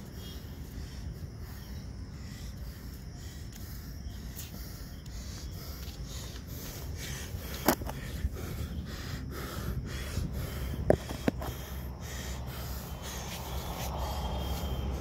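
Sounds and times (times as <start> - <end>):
forceful rhythmic breathing: 0.0 - 15.0.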